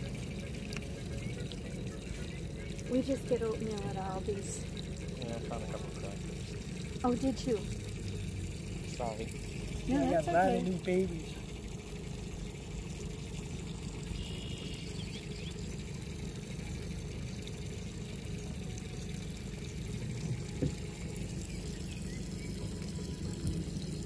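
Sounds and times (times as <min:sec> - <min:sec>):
boat engine rumble: 0:00.0 - 0:24.0
water splashing along hull: 0:00.0 - 0:24.0.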